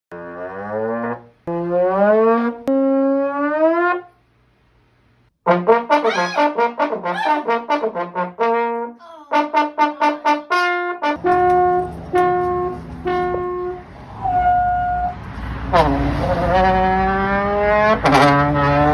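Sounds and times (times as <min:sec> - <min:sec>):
brass instrument comic notes: 0:00.1 - 0:04.1, 0:05.4 - 0:13.9, 0:15.7 - 0:18.9.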